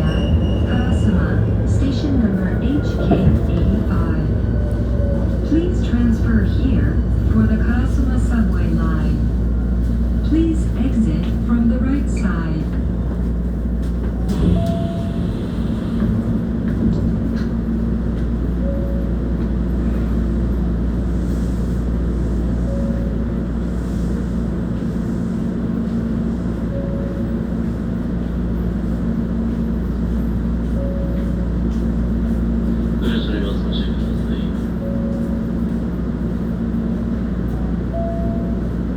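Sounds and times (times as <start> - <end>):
air conditioning: 0.0 - 38.9.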